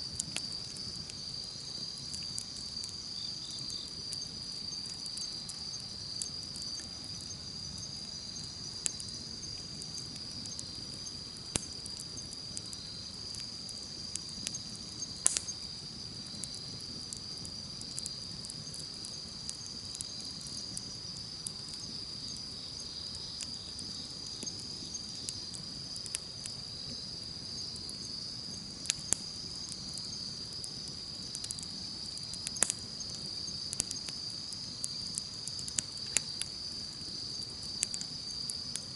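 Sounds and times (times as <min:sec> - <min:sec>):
campfire crackling: 0:00.0 - 0:38.9
insects chirring: 0:00.0 - 0:38.9
sharp pops of fire: 0:00.0 - 0:38.9.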